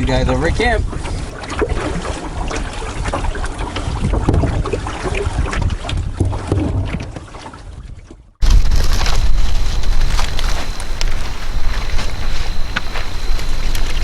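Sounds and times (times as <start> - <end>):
wind buffeting microphone: 0.0 - 7.2, 7.8 - 14.0
canoe paddling: 0.8 - 14.0
water sloshing: 0.8 - 14.0.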